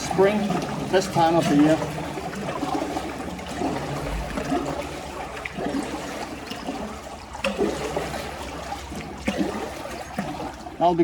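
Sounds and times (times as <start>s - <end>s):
river water trickling and splashing: 0.0s - 11.0s.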